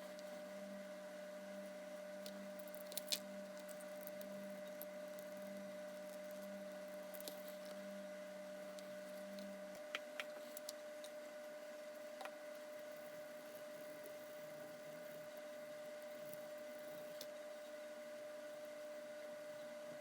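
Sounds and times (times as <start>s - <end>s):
faint electrical hum: 0.0s - 20.0s
low pulsing hum: 0.0s - 20.0s.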